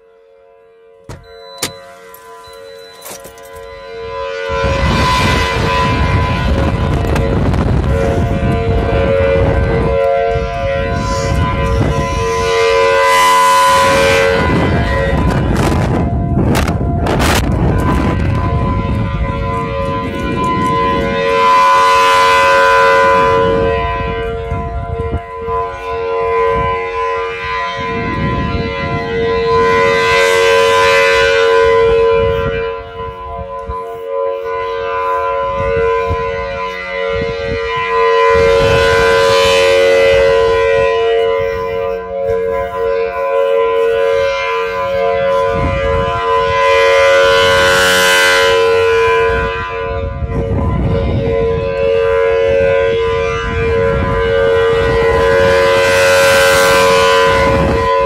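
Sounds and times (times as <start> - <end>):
outdoor warning siren: 0.0 - 58.0.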